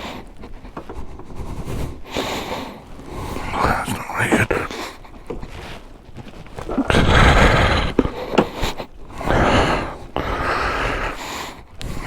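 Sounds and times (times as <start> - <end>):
man breathing hard: 0.0 - 5.3, 6.9 - 12.0.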